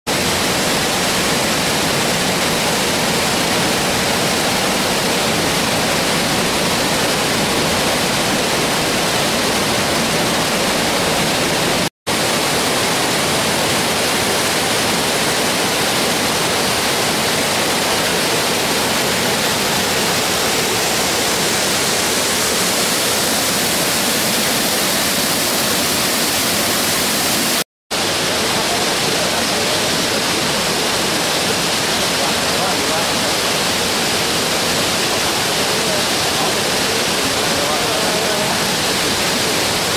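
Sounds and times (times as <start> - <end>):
water rushing down cascades: 0.1 - 39.9.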